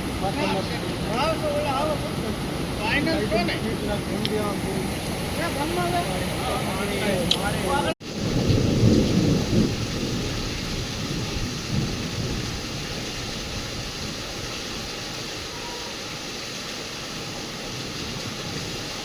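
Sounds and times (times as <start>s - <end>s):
thunder rumbling: 0.0s - 16.2s
steady rain: 0.0s - 19.0s.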